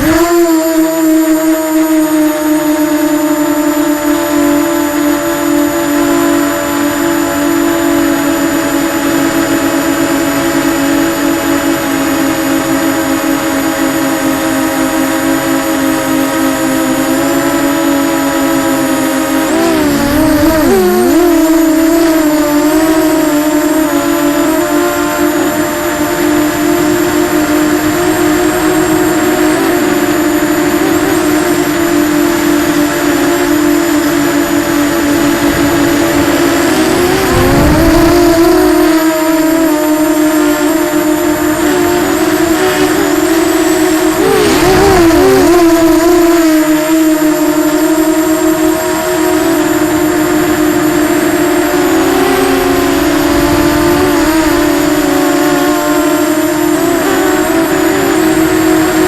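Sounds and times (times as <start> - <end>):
quadcopter motors whining: 0.0 - 59.0.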